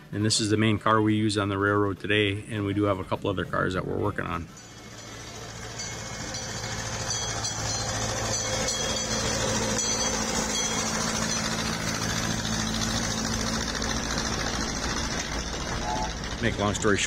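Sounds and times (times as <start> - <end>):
small train rolling on track: 0.0 - 17.0.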